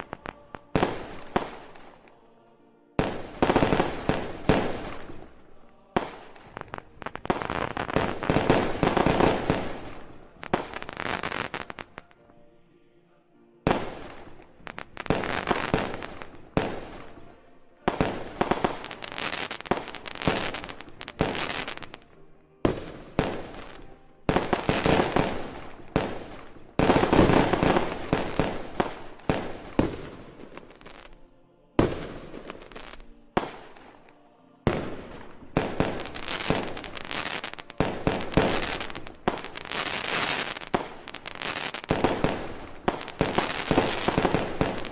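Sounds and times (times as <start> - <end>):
fireworks bangs and crackle: 3.0 - 5.4, 6.0 - 12.1, 13.7 - 17.2, 17.9 - 31.2, 31.8 - 33.9, 34.7 - 44.9.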